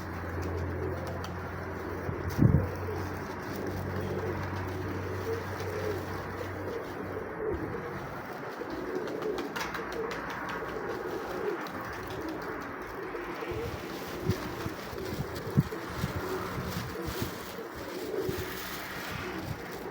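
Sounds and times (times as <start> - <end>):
pigeons cooing: 0.0 - 19.9.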